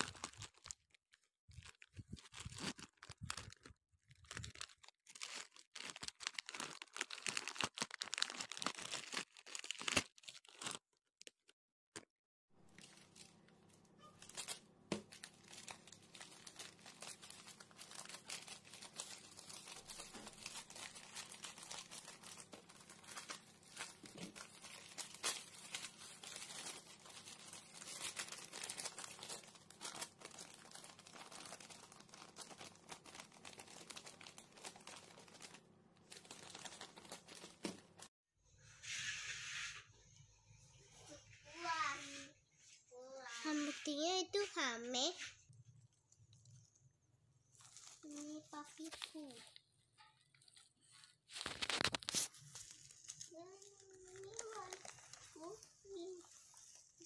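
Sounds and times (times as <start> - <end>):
plastic packaging crinkling and tearing: 0.0 - 11.5, 12.7 - 38.1, 47.5 - 57.0.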